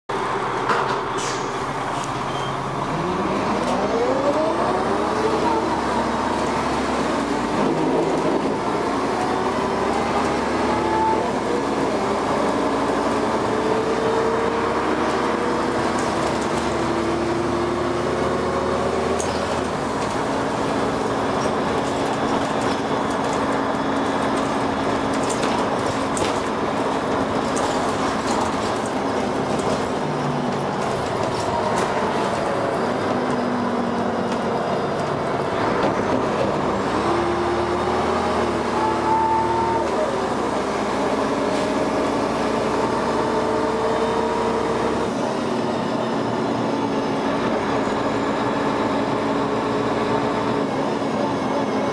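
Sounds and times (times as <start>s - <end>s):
bus engine and gearbox whine: 0.1s - 51.9s
engine drone and road noise: 0.1s - 51.9s.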